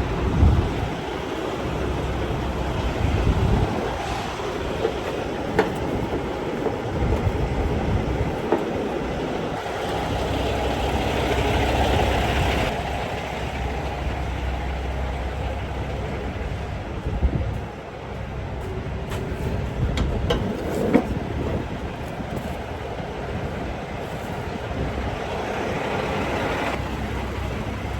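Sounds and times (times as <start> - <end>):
diesel engine rumbling: 0.0 - 27.9.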